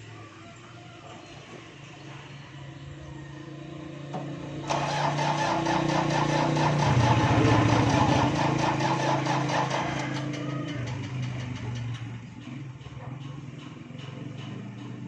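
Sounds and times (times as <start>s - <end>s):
small engine running: 1.2s - 15.0s.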